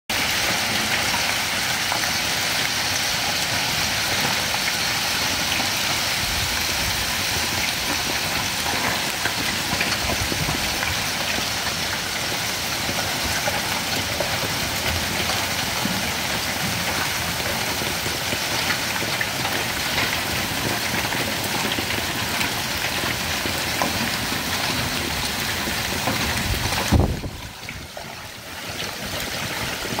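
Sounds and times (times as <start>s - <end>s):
hail and heavy rain on pavement: 0.1s - 30.0s.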